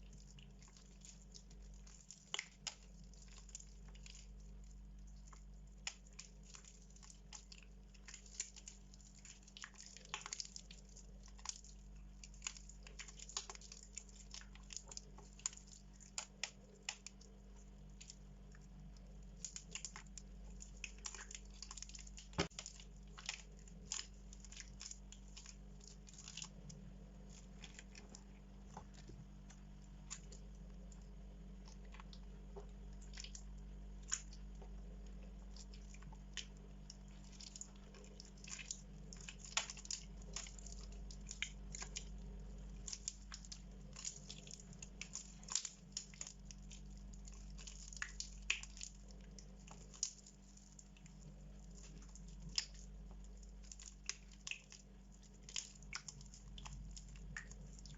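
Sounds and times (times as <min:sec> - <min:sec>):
wet soap squishing and crackling: 0:00.0 - 0:57.9.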